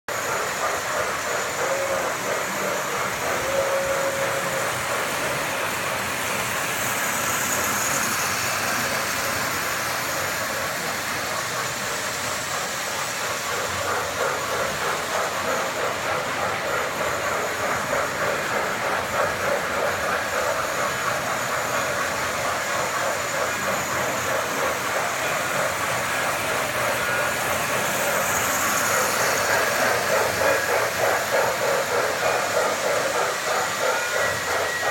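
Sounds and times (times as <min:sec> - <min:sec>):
hiss: 0:00.1 - 0:34.9
model train wheels and motors whirring: 0:00.1 - 0:34.9
rapid clacking of train on track: 0:00.1 - 0:34.9.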